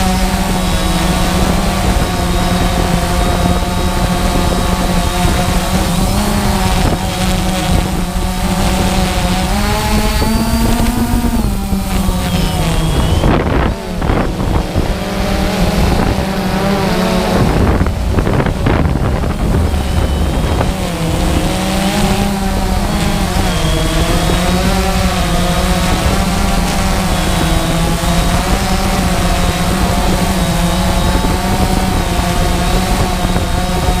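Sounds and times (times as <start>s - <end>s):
drone motors and propellers buzzing: 0.0s - 34.0s
wind buffeting microphone: 0.0s - 34.0s.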